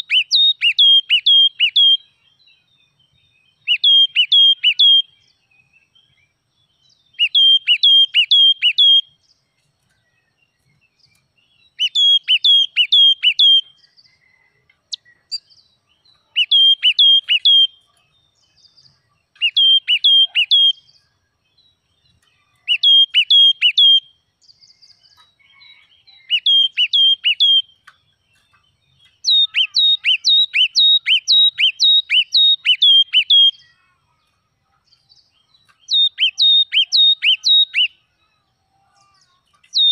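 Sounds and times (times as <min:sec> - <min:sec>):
bird singing clear notes: 0:00.0 - 0:39.9.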